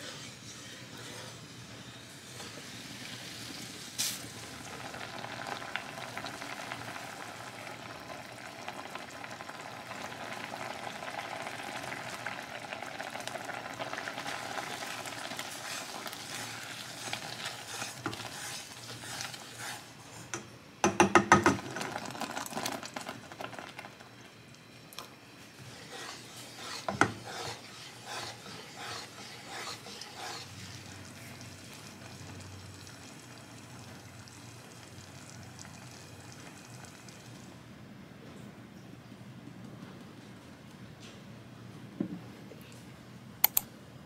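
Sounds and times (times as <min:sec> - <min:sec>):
porridge bubbling in a saucepan: 0:00.0 - 0:37.8.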